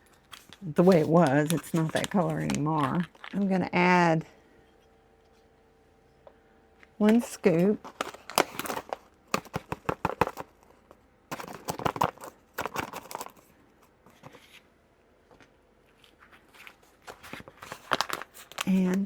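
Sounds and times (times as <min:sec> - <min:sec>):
faint handling sounds: 0:00.0 - 0:03.6, 0:04.3 - 0:19.0.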